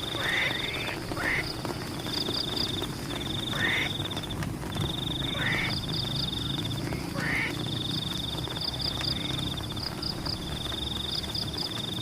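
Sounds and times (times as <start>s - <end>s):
frogs croaking: 0.0s - 12.0s
rain hiss: 0.0s - 12.0s.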